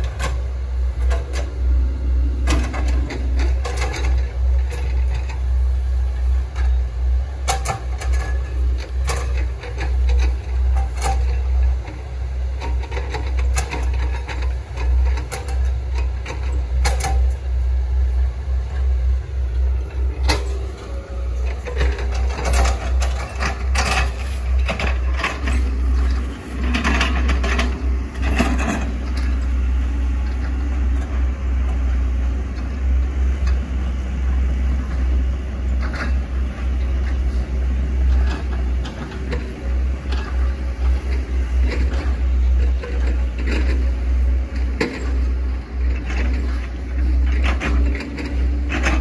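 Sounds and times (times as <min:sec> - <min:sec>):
excavator engine rumble: 0:00.0 - 0:49.0.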